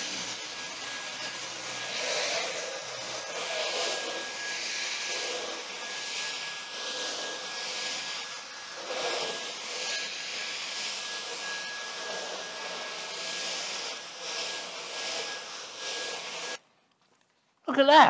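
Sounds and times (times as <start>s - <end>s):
vacuum cleaner whining: 0.0s - 16.6s.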